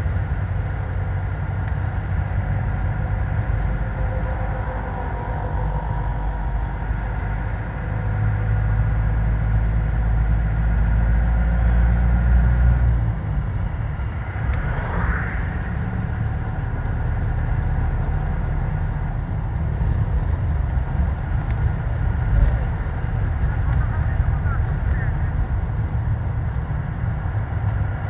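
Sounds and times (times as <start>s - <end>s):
motor vehicle rumbling: 0.0s - 28.0s.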